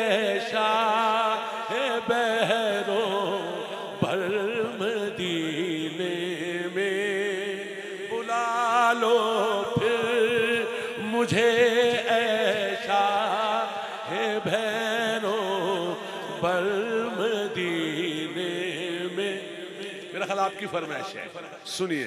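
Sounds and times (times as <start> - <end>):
man singing with vibrato: 0.0 - 22.0.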